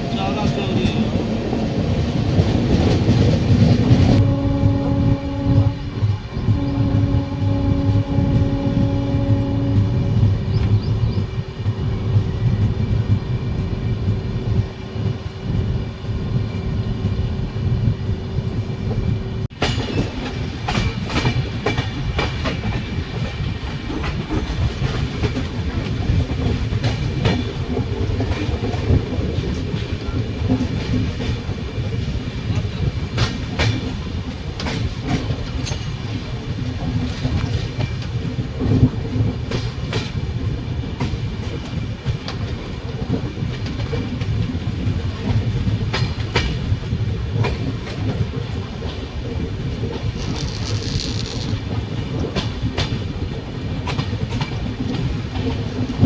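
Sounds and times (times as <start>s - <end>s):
heavy train rumble: 0.0s - 56.0s
train wheels clattering on rails: 0.0s - 56.0s.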